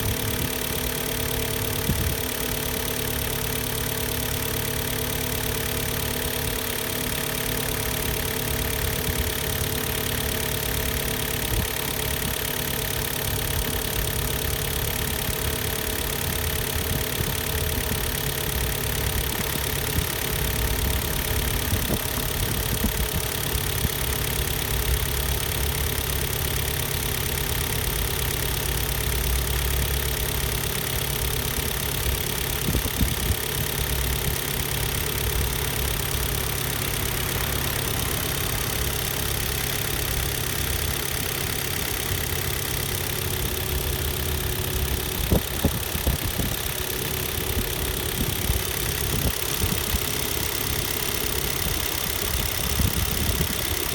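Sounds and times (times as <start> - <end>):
petrol engine idling: 0.0 - 53.9.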